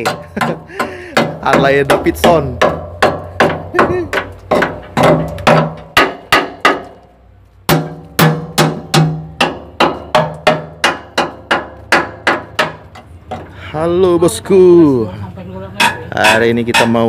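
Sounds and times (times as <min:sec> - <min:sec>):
hammer clanging on steel: 0:00.0 - 0:07.1, 0:07.7 - 0:13.6, 0:15.8 - 0:17.0.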